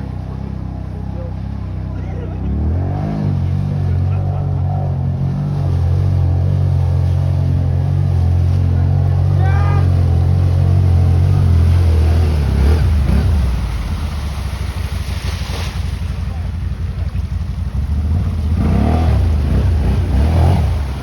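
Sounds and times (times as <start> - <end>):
dirt bike engine revving: 0.0 - 15.1, 17.6 - 21.0.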